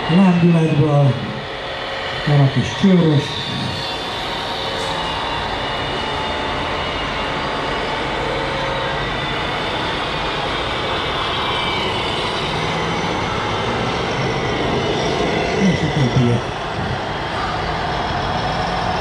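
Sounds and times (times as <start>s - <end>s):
high whining tones: 0.0s - 19.0s
model trucks running: 0.0s - 19.0s.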